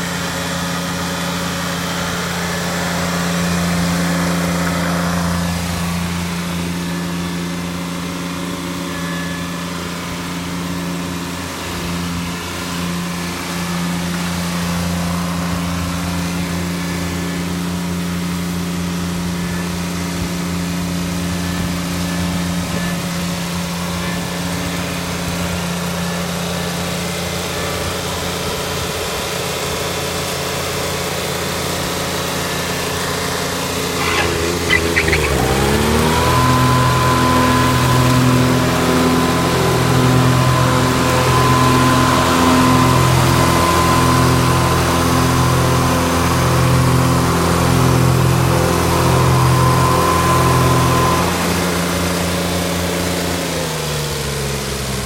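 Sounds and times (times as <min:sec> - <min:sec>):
diesel engine idling and revving: 0:00.0 - 0:55.0.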